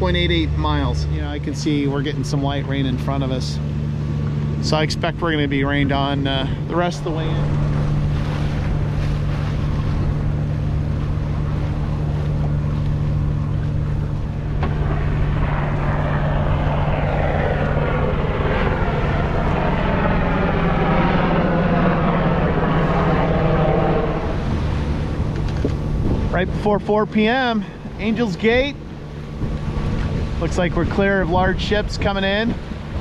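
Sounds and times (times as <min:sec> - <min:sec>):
helicopter flying past: 0:00.0 - 0:33.0
steady low hum: 0:00.0 - 0:33.0
water noise: 0:00.0 - 0:33.0
wind: 0:00.0 - 0:33.0.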